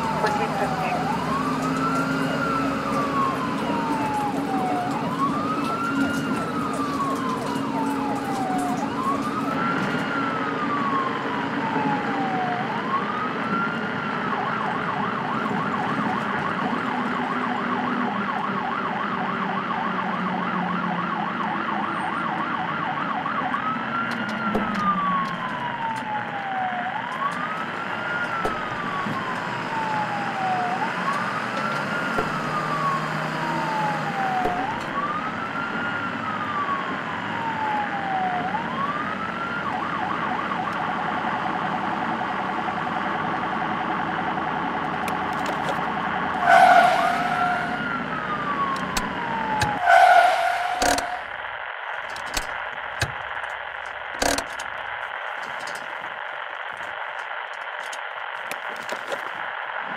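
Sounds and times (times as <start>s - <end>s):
emergency siren wailing: 0.0s - 54.7s.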